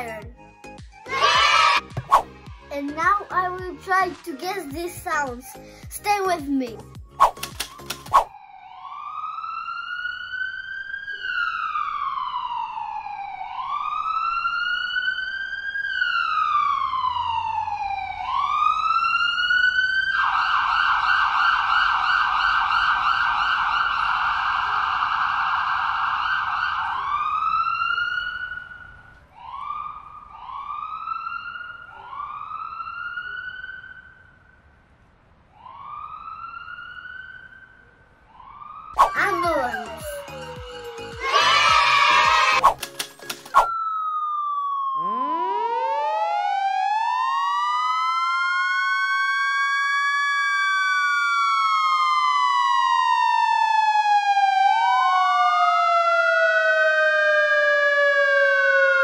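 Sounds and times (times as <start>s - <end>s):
ambulance siren wailing: 8.3s - 34.4s, 35.6s - 42.6s, 43.6s - 59.0s.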